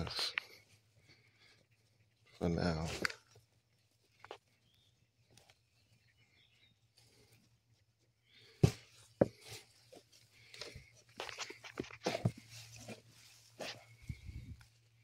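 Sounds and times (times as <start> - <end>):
hands rustling in soil: 0.0 - 15.0.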